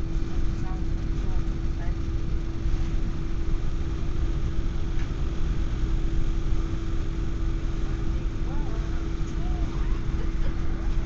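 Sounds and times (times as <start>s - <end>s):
steady hum: 0.0s - 11.0s
train running on track: 0.0s - 11.0s.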